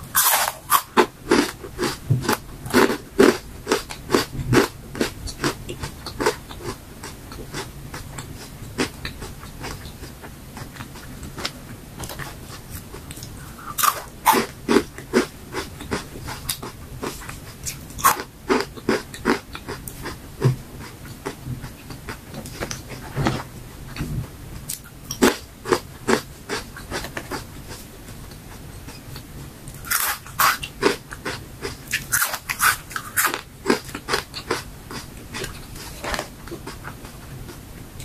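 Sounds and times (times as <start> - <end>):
chewing crunchy chips: 0.1 - 23.0, 23.9 - 37.7.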